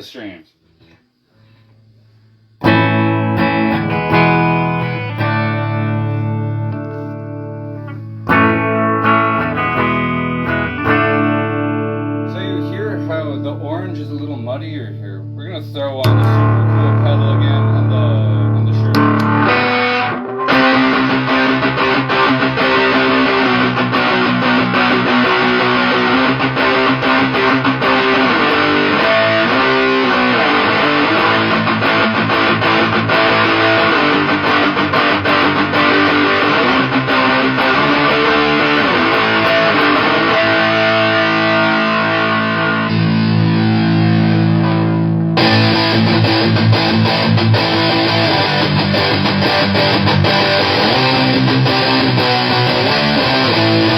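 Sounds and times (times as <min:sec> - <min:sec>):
distorted electric guitar riffing: 0:00.7 - 0:53.9.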